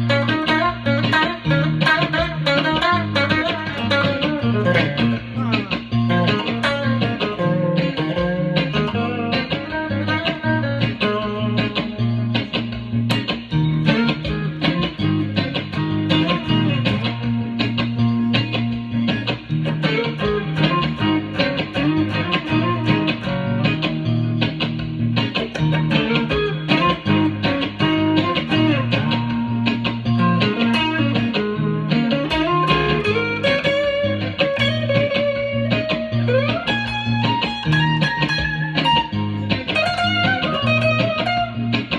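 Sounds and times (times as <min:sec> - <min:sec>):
guitar sliding upward in pitch: 0:00.0 - 0:41.9
guitar-led music: 0:00.0 - 0:41.9
steady bass: 0:00.0 - 0:41.9.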